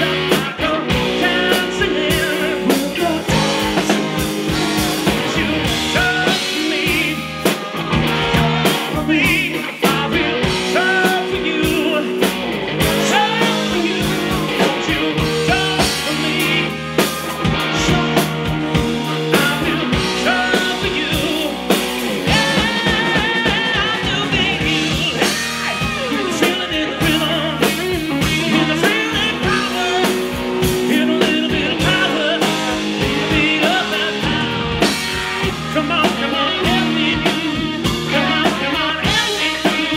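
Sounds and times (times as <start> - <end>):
live rock band playing: 0.0 - 39.9
person singing: 0.0 - 39.9
saxophone: 0.0 - 39.9.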